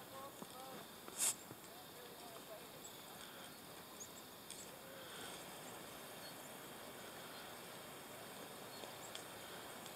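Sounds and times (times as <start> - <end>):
faint outdoor background hiss: 0.0 - 9.9.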